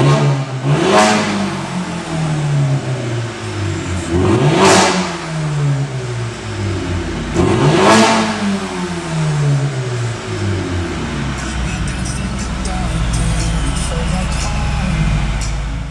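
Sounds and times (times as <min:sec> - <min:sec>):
car engine revving: 0:00.0 - 0:15.9
exhaust crackles: 0:00.0 - 0:15.9.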